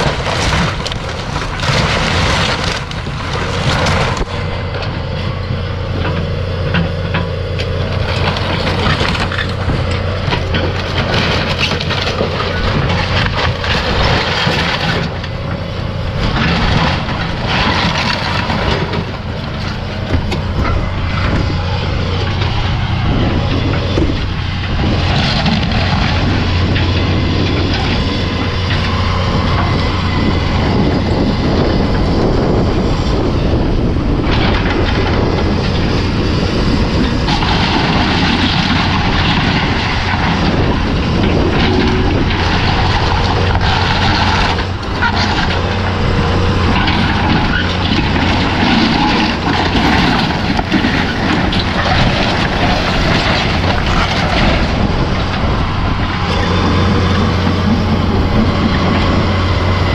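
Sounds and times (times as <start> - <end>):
timber cracking and crunching: 0.0 - 5.2, 6.2 - 33.0, 33.9 - 59.9
heavy diesel equipment running: 0.0 - 59.9.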